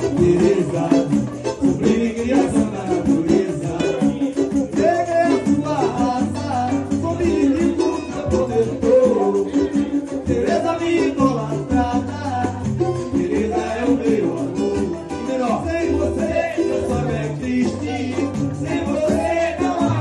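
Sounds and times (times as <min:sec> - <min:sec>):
samba music: 0:00.0 - 0:20.0
stepping bass line: 0:00.0 - 0:20.0.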